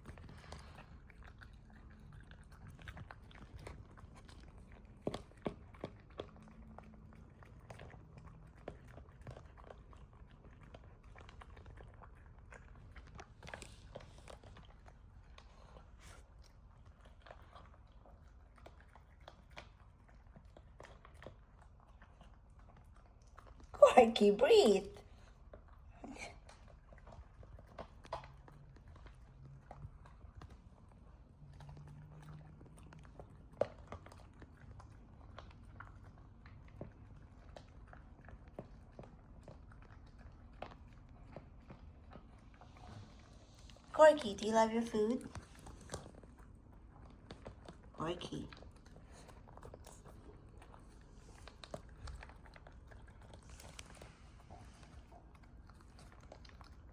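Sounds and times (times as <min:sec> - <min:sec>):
puppy chewing food: 0:00.0 - 0:56.9.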